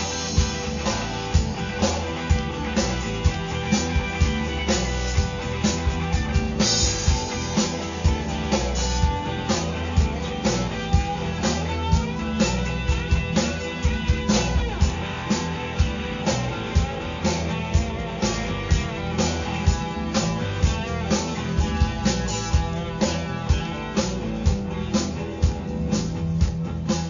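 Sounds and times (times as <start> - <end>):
electric guitars: 0.0 - 27.0
steady drum beat: 0.0 - 27.0.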